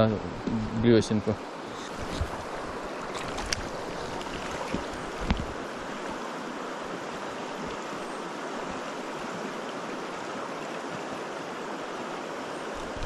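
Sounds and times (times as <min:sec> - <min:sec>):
river rushing over rocks: 0:00.8 - 0:13.0.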